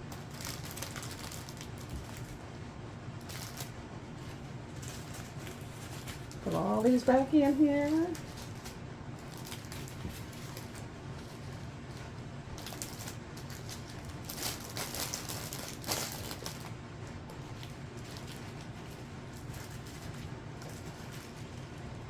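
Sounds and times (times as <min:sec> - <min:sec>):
plastic bags rustling: 0:00.0 - 0:02.4, 0:03.2 - 0:22.0
low steady hum: 0:00.0 - 0:22.0.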